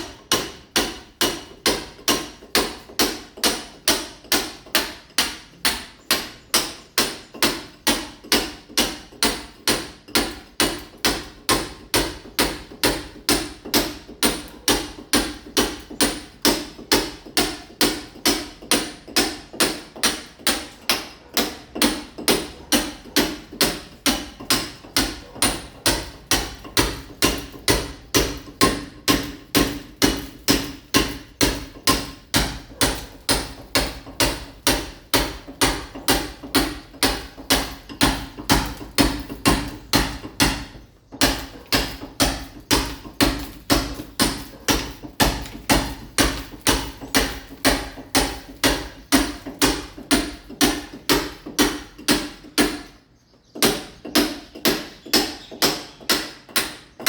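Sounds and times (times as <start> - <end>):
hammer striking masonry wall: 0.0 - 57.0.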